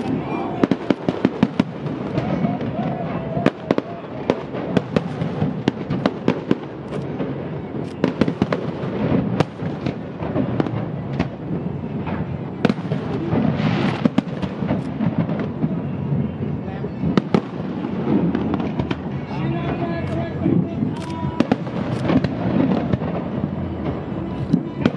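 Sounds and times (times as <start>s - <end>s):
fireworks bursting: 0.0s - 24.9s
steady background din: 0.0s - 24.9s.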